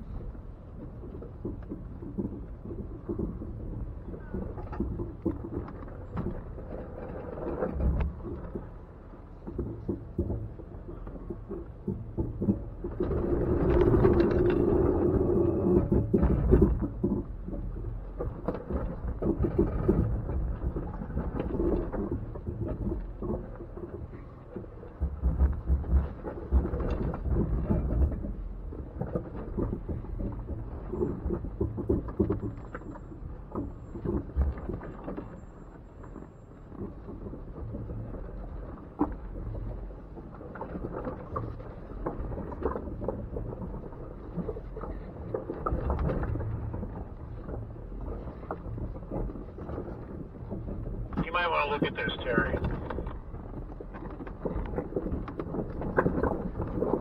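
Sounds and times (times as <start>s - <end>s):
engine and drivetrain rumble: 0.0s - 57.0s.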